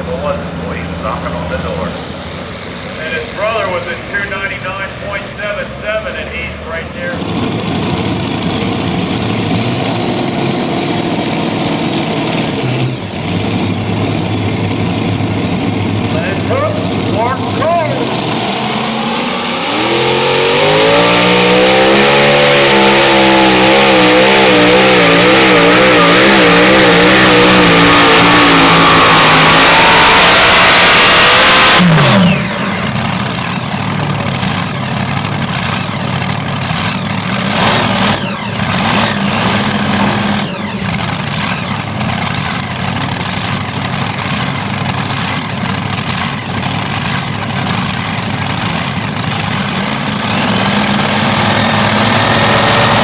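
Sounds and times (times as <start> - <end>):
pulling tractor engine roaring: 0.0 - 53.0.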